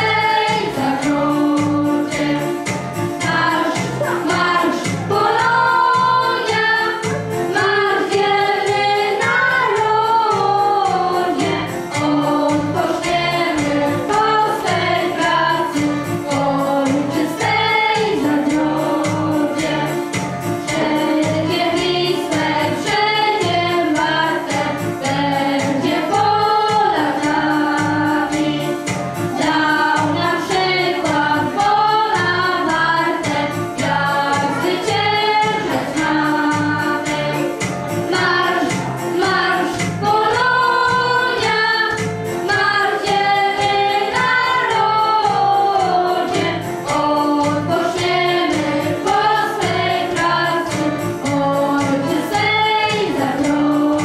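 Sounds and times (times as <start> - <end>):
children singing: 0.0 - 54.0
instrumental backing with beat: 0.0 - 54.0.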